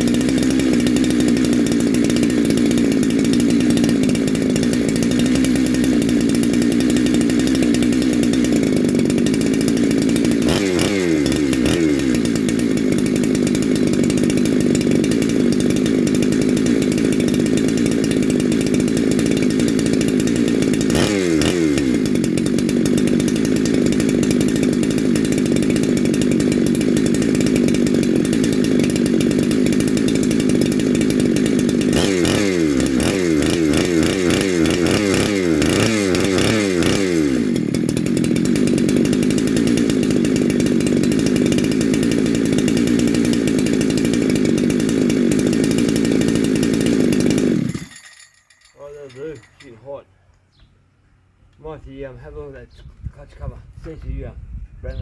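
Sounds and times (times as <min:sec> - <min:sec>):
chainsaw running: 0:00.0 - 0:50.0.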